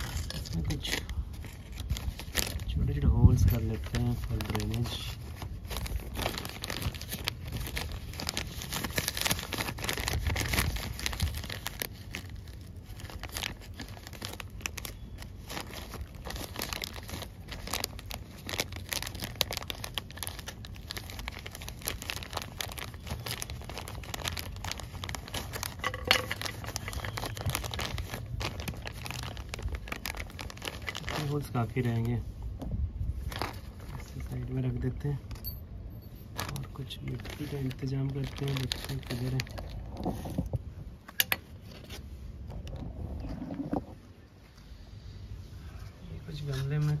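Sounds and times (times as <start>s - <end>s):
plastic pouch crinkling: 0.0s - 32.3s, 33.2s - 35.4s, 36.2s - 40.5s.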